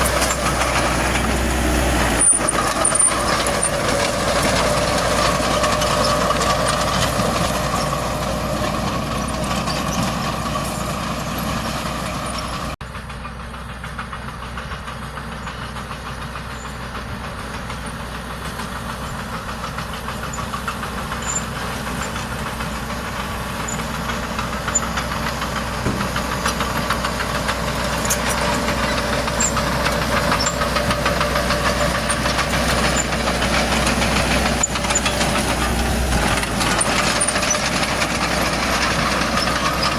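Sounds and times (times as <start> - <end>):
heavy diesel engine clattering: 0.0 - 39.9.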